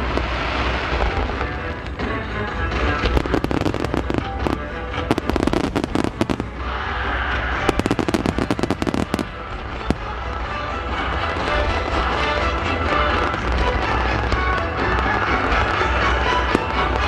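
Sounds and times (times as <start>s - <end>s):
fireworks bursting and crackling: 0.0s - 17.0s
fireworks hissing: 0.0s - 17.0s
steady low rumble: 0.0s - 17.0s.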